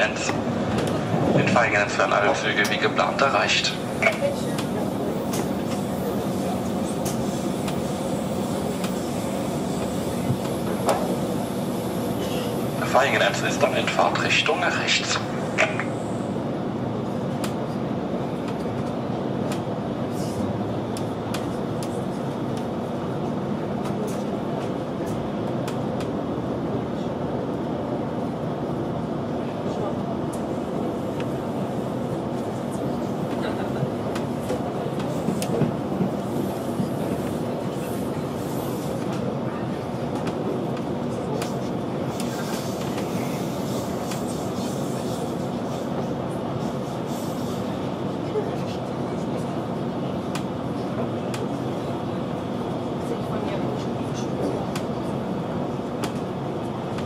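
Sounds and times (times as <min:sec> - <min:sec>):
train running rumble: 0:00.0 - 0:57.0.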